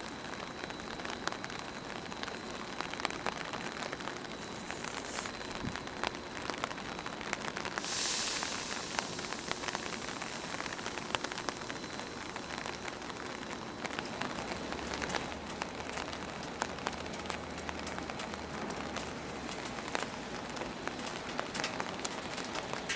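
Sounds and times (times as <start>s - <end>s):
heavy rain: 0.0s - 22.9s.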